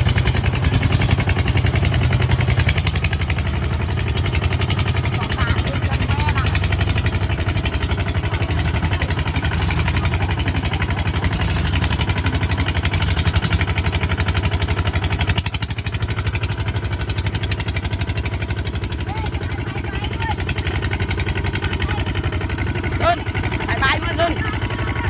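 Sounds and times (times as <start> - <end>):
tractor engine chugging: 0.0 - 25.0.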